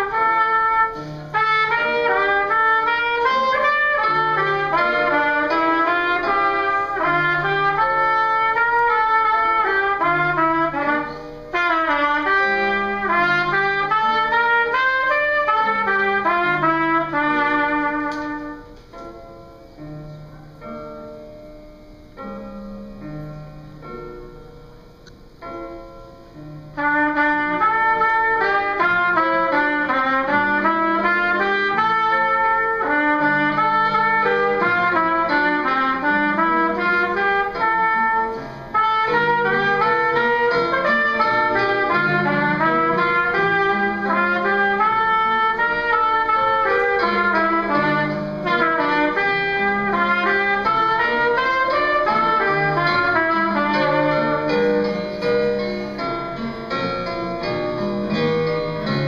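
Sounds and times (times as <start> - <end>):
trumpet solo: 0.0 - 18.8, 26.7 - 56.5.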